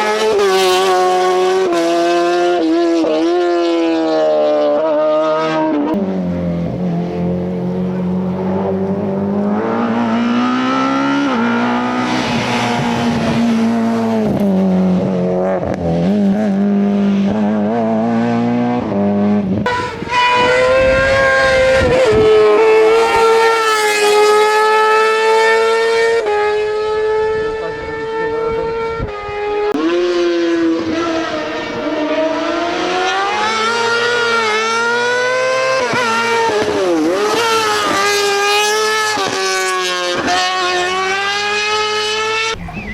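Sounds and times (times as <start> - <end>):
rally car engines revving: 0.0 - 42.9.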